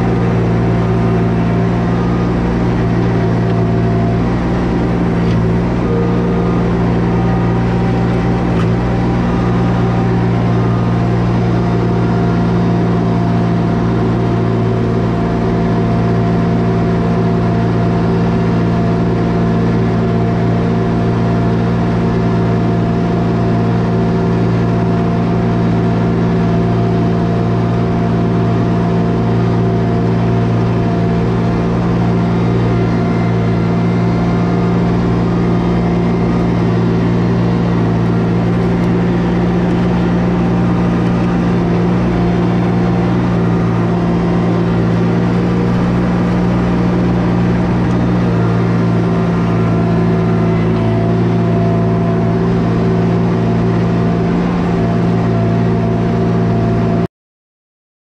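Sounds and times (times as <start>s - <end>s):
track loader engine running: 0.0s - 57.1s.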